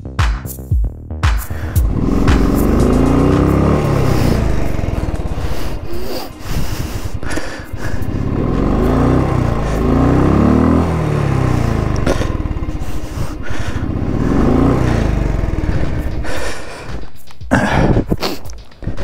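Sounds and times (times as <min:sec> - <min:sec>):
motorcycle engine revving: 0:01.5 - 0:18.9.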